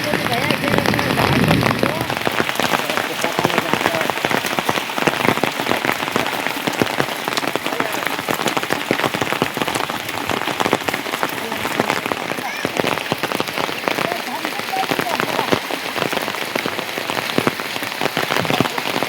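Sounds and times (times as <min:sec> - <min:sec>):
raindrops ticking on a surface: 0:00.0 - 0:19.0
steady rain falling: 0:00.0 - 0:19.0.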